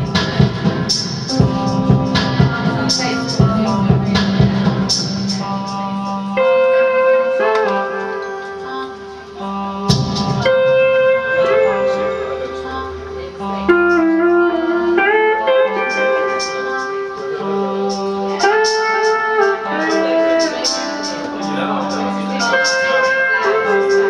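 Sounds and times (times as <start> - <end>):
slide steel guitar: 0.0 - 24.0.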